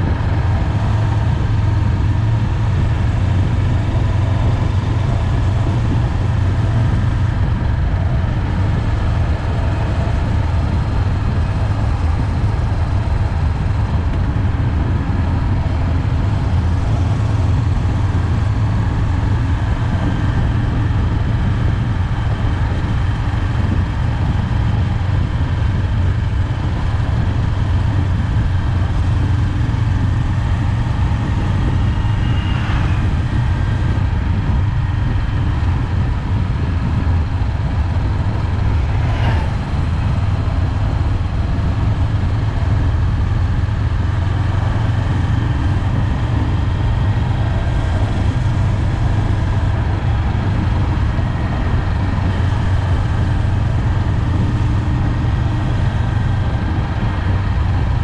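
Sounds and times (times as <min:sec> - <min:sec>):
motorcycle engine humming: 0:00.0 - 0:58.0
road and wind noise: 0:00.0 - 0:58.0.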